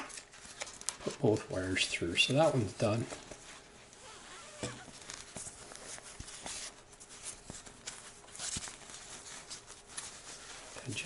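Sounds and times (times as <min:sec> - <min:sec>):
fabric and foam rustling: 0:00.2 - 0:11.0.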